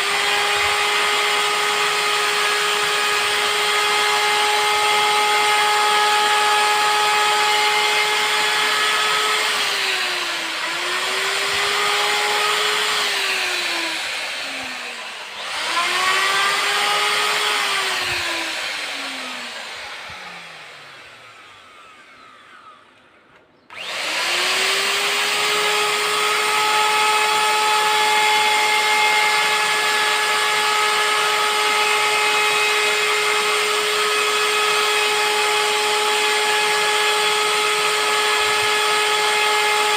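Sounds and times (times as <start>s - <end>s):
router motor whining: 0.0s - 39.9s.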